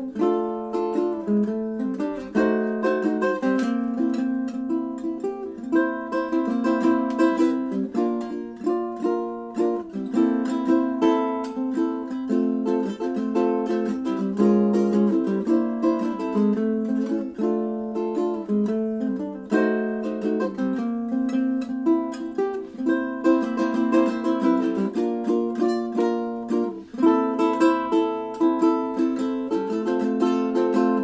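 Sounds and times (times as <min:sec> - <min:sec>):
ukulele strumming: 0:00.0 - 0:31.0.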